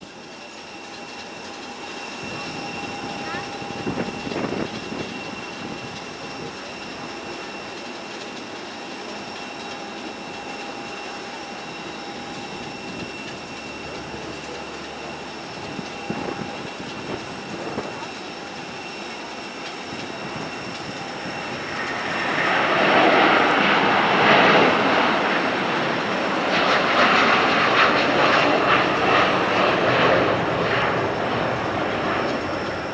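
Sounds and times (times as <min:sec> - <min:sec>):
jet engines at takeoff: 0:00.0 - 0:32.9.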